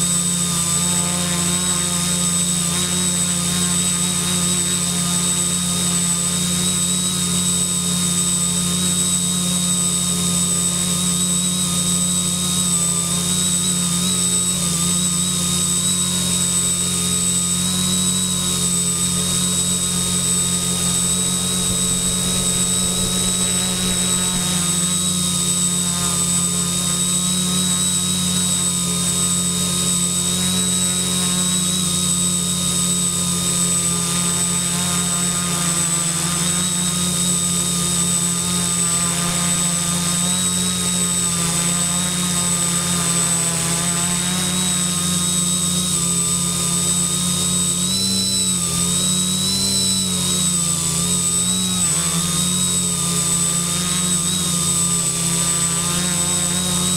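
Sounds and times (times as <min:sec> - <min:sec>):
quadcopter motors whirring: 0:00.0 - 0:56.9.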